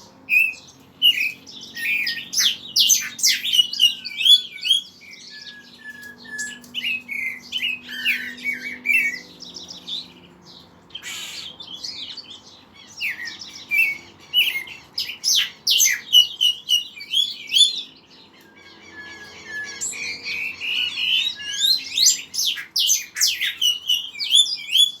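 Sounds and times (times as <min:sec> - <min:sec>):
songbirds singing: 0:00.0 - 0:25.0.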